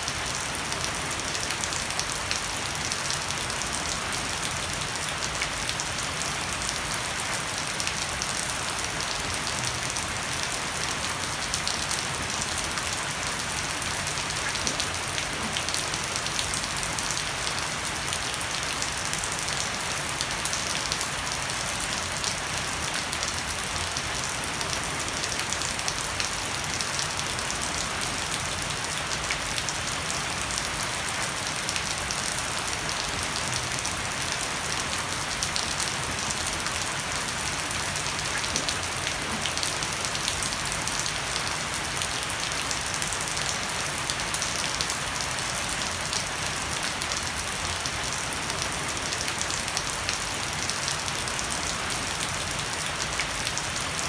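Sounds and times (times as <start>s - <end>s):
heavy rain on deck and shrubs: 0.0s - 54.0s.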